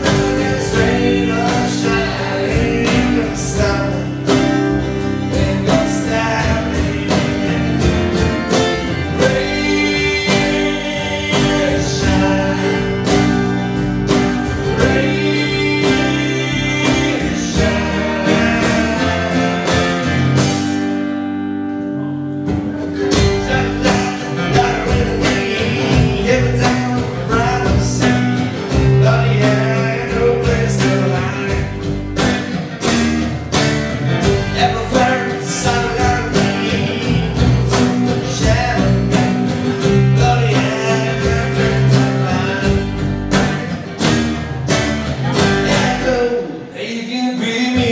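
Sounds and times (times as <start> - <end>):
bending lead guitar: 0.0 - 46.8
country-rock band playing: 0.0 - 47.9.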